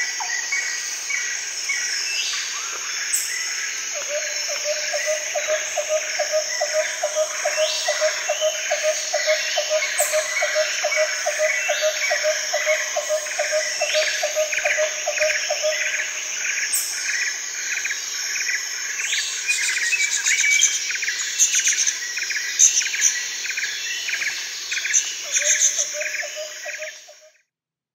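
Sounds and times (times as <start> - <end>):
high insect trill: 0.0 - 27.3.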